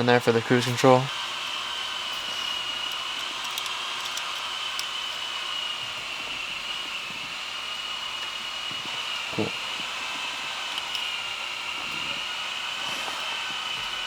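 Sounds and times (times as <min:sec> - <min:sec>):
fan whirring with high whine: 0:00.0 - 0:14.0.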